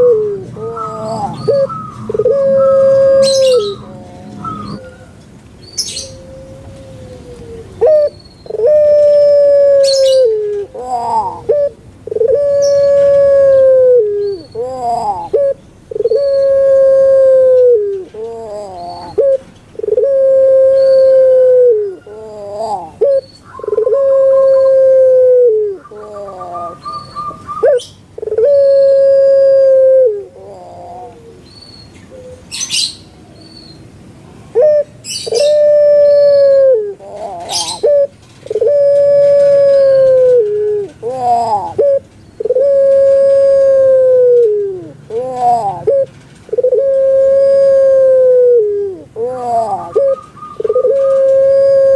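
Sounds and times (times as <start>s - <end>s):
dove cooing: 0.0s - 32.9s, 34.5s - 51.9s.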